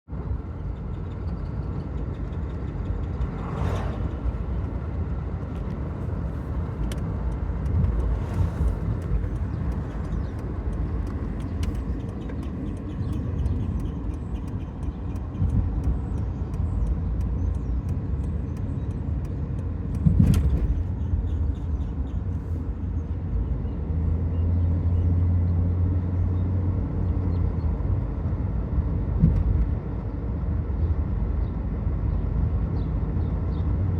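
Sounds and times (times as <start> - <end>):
road rumble: 0.1 - 33.9.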